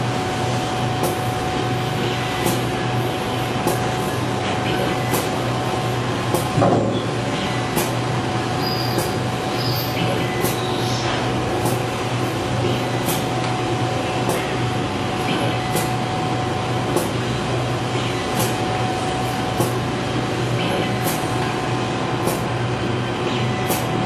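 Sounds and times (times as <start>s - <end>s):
machine hum with whine: 0.0s - 24.0s.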